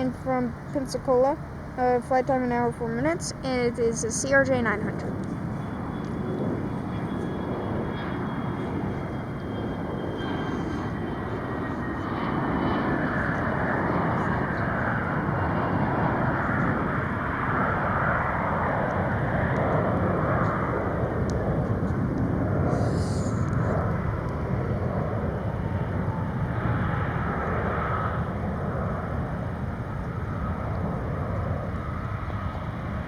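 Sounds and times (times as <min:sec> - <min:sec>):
jet engines passing: 0:00.0 - 0:33.0.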